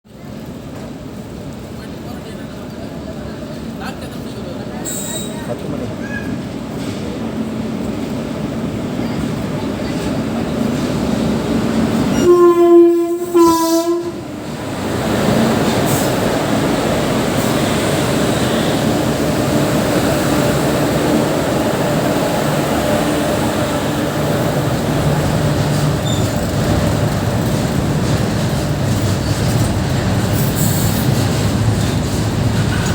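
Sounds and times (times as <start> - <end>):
train wheels rumbling on rails: 0.1 - 32.9.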